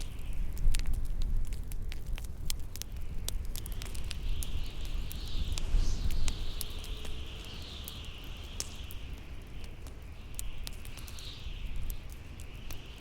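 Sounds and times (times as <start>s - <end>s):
bonfire crackling and popping: 0.0s - 13.0s
high howling wind: 0.0s - 13.0s
low rumble of wind: 0.0s - 13.0s.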